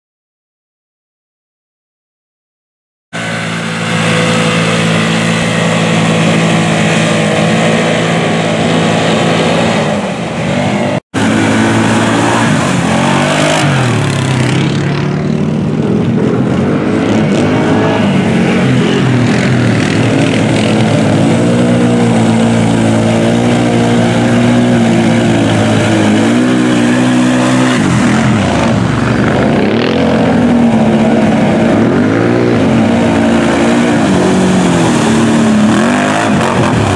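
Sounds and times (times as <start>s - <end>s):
off-road vehicle engines revving: 3.2s - 36.9s.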